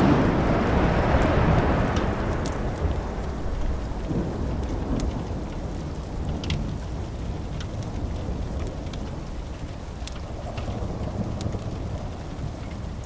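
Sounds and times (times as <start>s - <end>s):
steady rain: 0.0s - 13.0s
thunder rumbling: 0.0s - 13.0s
wood fire crackling: 0.0s - 13.0s.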